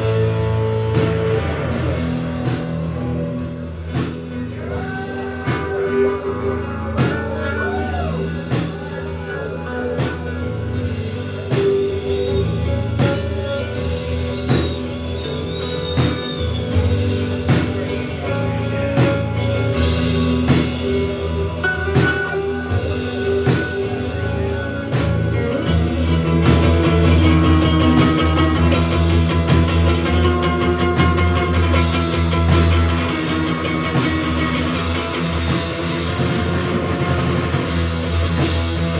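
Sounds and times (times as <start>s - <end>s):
drum kit beat: 0.0s - 38.9s
electric guitar bending notes: 0.0s - 38.9s.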